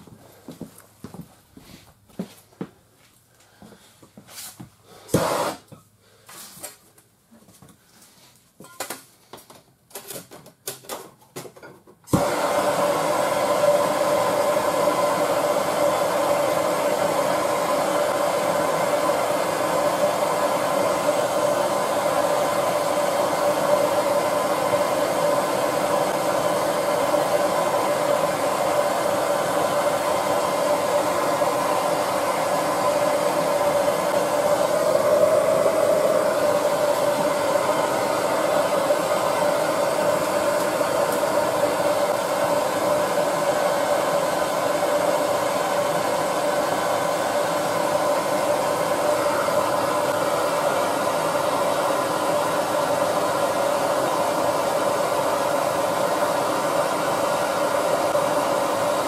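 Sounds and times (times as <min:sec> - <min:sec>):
hand torch burning with hiss: 0:04.4 - 0:05.7, 0:12.1 - 0:59.0.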